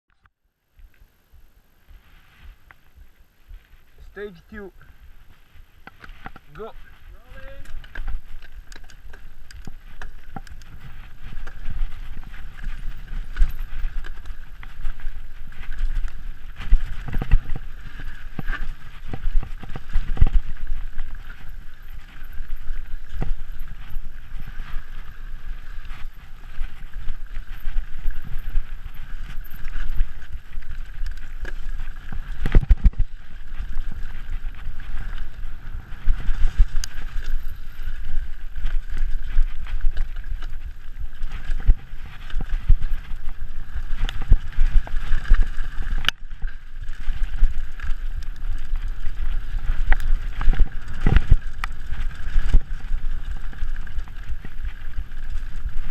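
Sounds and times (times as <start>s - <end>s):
bike tyres rumbling over dirt: 0.8s - 55.9s.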